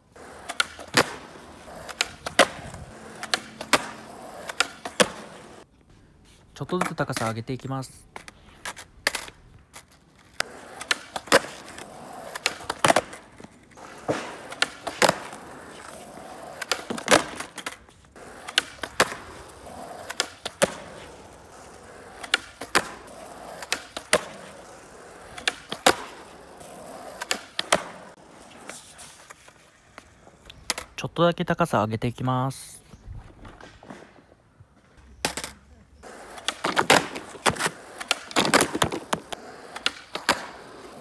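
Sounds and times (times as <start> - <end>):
skateboard wheels rolling on asphalt: 0.0 - 41.0
skateboard wooden clacks: 0.2 - 5.7, 8.1 - 31.0, 33.2 - 41.0.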